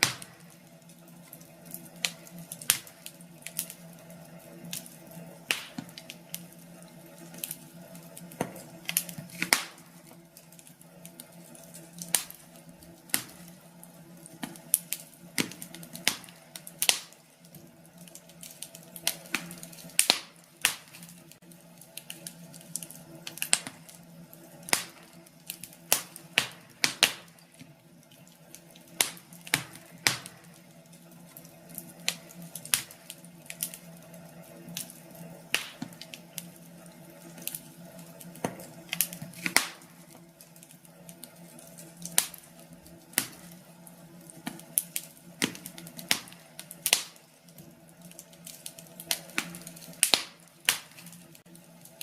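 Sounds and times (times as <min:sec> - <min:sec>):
wood fire crackling and popping: 0:00.0 - 0:52.0.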